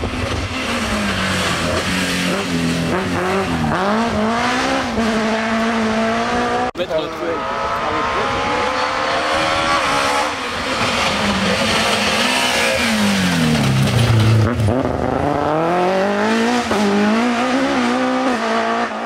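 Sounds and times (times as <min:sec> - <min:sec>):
rally car engine passing: 0:00.0 - 0:19.0.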